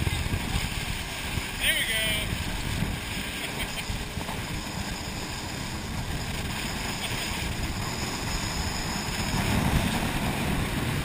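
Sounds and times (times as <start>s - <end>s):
jet ski engine drone: 0.0s - 11.0s
wind buffeting microphone: 0.0s - 11.0s.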